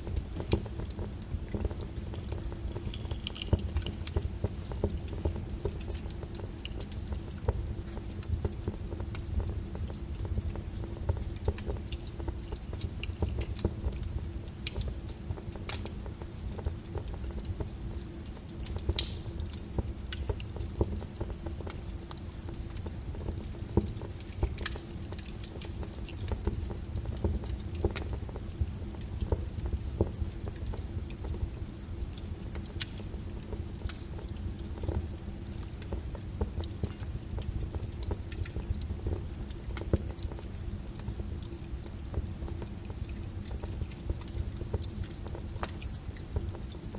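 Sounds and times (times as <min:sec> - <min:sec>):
faint steady hum: 0:00.0 - 0:46.9
wood fire crackling: 0:00.0 - 0:46.9.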